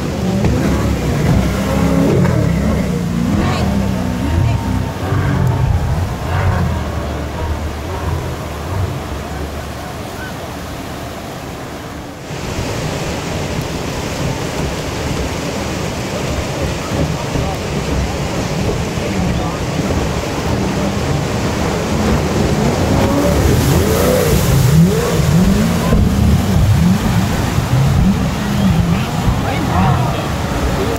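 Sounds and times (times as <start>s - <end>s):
jet boat engine: 0.0s - 30.9s
whitewater rapids rushing: 0.0s - 30.9s
wind buffeting microphone: 0.0s - 30.9s.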